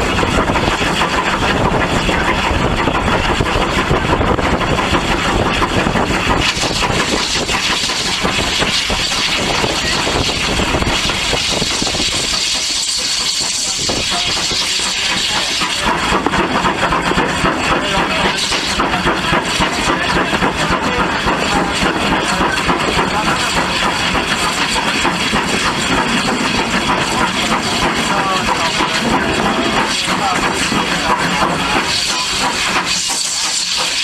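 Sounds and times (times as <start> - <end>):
locomotive pulsing exhaust: 0.0 - 34.0
steam locomotive hissing: 0.0 - 34.0.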